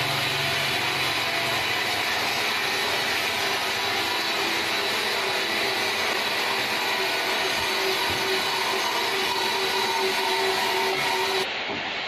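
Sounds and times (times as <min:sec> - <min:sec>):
band saw cutting wood: 0:00.0 - 0:11.5.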